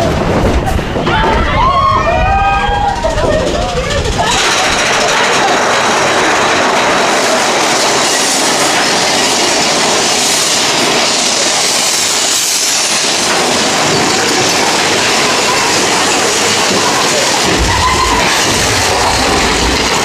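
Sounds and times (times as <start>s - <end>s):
roller coaster on track: 0.0s - 20.0s.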